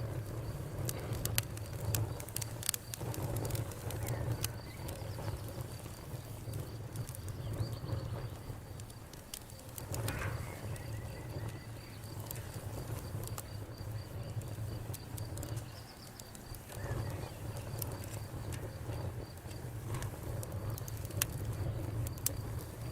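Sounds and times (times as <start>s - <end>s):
campfire crackling and popping: 0.0s - 22.9s
cricket chirping: 0.0s - 22.9s.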